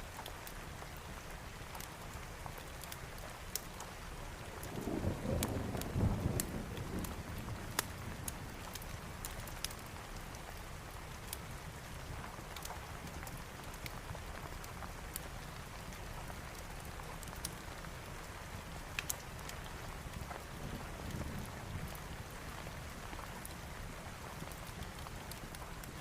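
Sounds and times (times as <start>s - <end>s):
steady rain: 0.0s - 26.0s
wood fire pops and crackles: 0.1s - 26.0s.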